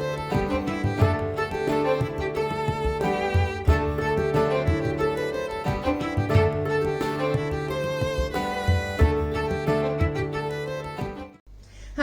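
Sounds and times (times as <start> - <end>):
fiddle melody: 0.0 - 11.4.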